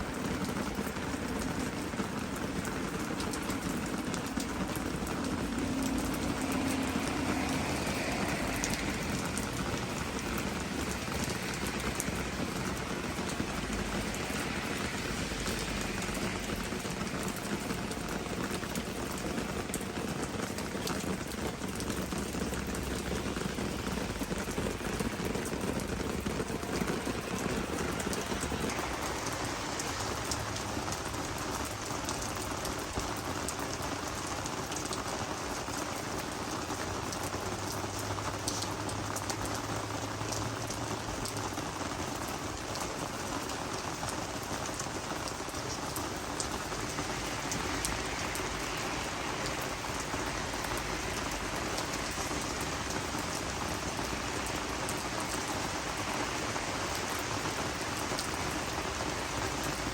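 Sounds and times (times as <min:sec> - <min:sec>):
rain falling on plants: 0:00.0 - 0:59.9.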